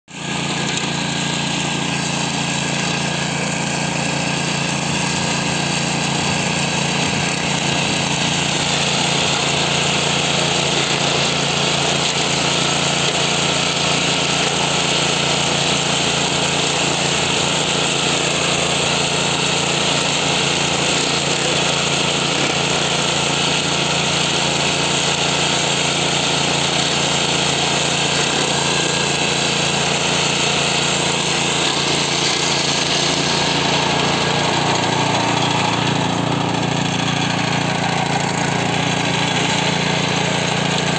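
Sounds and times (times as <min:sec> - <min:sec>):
tractor engine running under load: 0:00.1 - 0:40.9.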